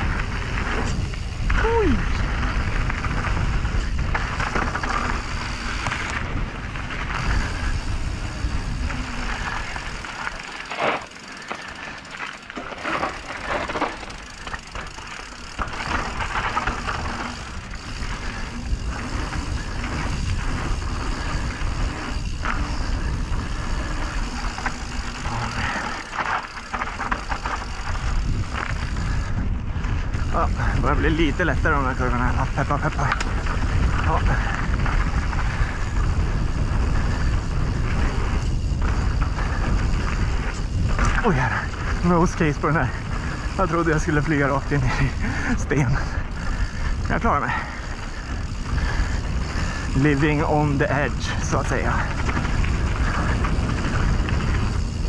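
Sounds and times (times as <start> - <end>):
wind on microphone: 0.0 - 10.4, 15.7 - 44.0, 44.7 - 55.0
bike chain and frame rattling: 0.0 - 55.0
tyres on dirt: 0.0 - 55.0.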